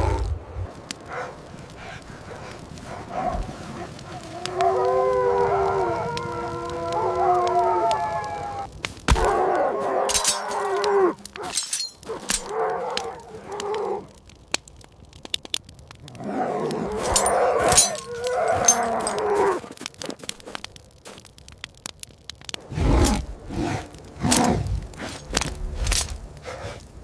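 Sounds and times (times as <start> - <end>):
sharp cracks and snaps: 0.0 - 27.0.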